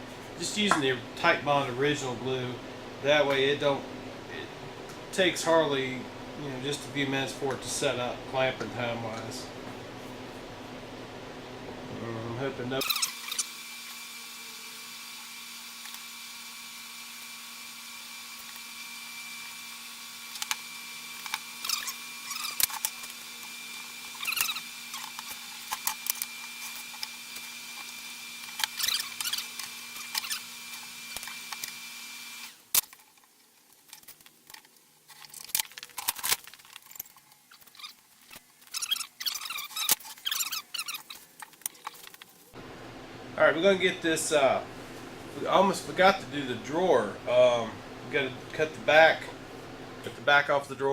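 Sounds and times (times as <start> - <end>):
electric hum: 0.0 - 50.9.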